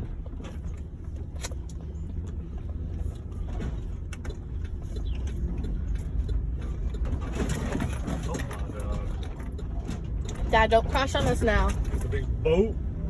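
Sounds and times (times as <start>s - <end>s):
car interior road noise: 0.0s - 13.0s.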